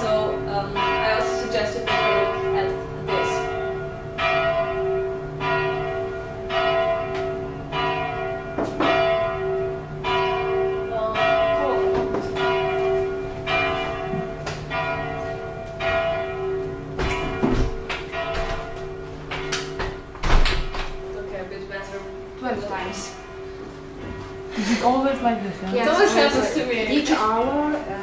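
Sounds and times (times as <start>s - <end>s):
church bell tolling: 0.0s - 27.9s.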